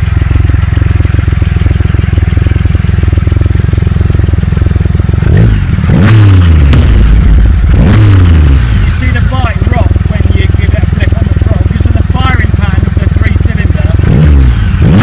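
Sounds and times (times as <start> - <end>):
motorcycle engine idling: 0.0 - 15.0
motorcycle engine revving: 0.0 - 15.0.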